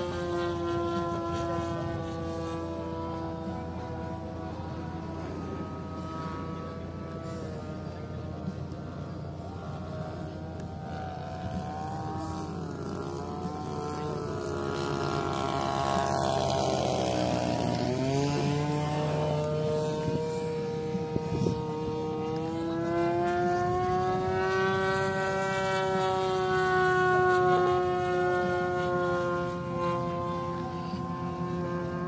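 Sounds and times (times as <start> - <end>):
model plane motor buzzing: 0.0 - 32.0.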